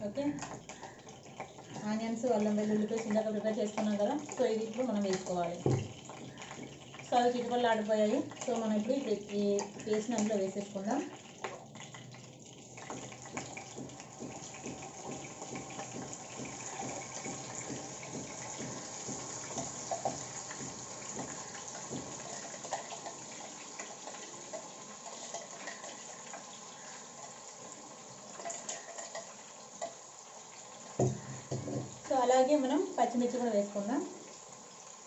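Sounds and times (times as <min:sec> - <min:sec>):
hot oil sizzling in a wok: 0:00.0 - 0:35.0.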